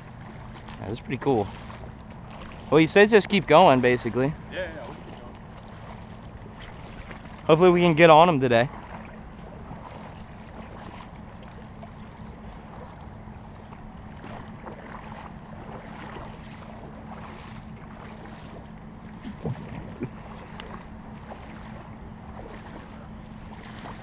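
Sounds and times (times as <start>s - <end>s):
splashes of wading steps: 0.0s - 24.0s.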